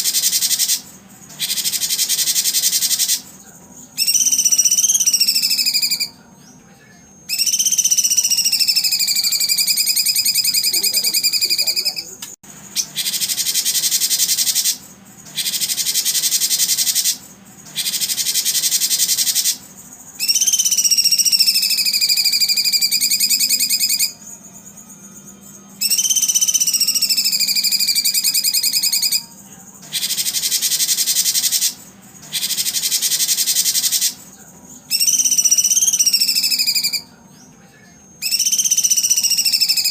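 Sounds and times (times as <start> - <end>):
songbird whistling and trilling: 0.0 - 3.3, 3.9 - 6.2, 7.3 - 25.0, 25.8 - 34.2, 34.9 - 37.1, 38.2 - 39.9.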